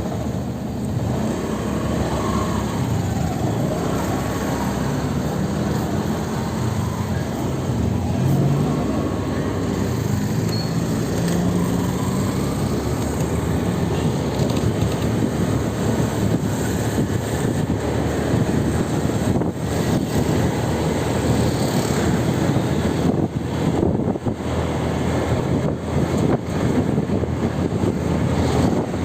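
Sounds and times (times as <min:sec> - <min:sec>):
vehicle and road rumble: 0:00.0 - 0:29.0.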